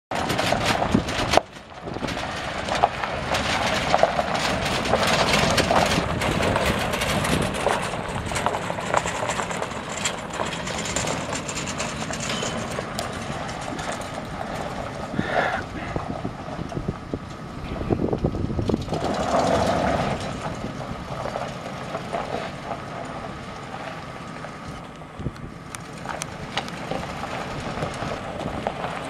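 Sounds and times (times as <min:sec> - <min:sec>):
pickup engine running: 0:00.1 - 0:29.0
tyres crunching on gravel: 0:00.1 - 0:29.0.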